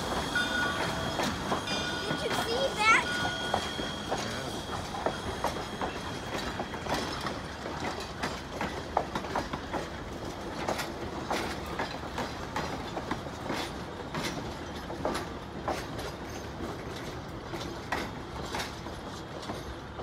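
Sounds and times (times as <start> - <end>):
train rolling rumble: 0.0 - 20.0
train wheels clanking over rail joints: 0.0 - 20.0.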